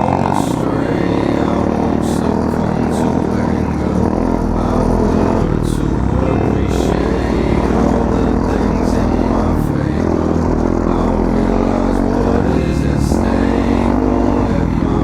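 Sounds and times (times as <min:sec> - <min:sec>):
off-road bike engine revving: 0:00.0 - 0:15.0.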